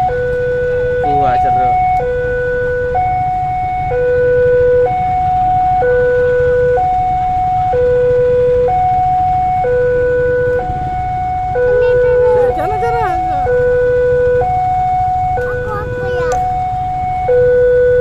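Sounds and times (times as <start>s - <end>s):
two-tone siren: 0.0s - 18.0s.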